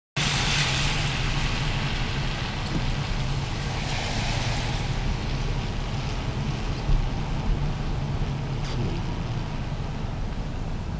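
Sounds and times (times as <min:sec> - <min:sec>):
tyre and road noise: 0:00.2 - 0:10.9
car engine hum: 0:00.7 - 0:10.9.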